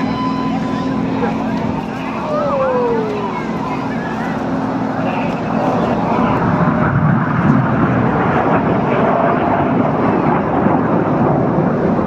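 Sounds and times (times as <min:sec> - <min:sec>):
jet aircraft flying overhead: 0:00.0 - 0:12.0.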